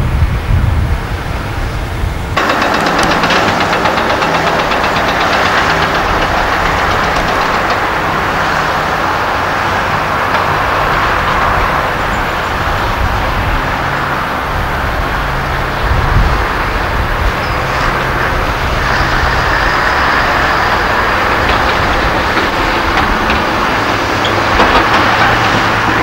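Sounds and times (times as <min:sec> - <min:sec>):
road and tyre noise: 0:00.0 - 0:26.0
truck diesel engines: 0:00.1 - 0:26.0
rapid ticking clatter: 0:02.4 - 0:13.4, 0:16.1 - 0:26.0.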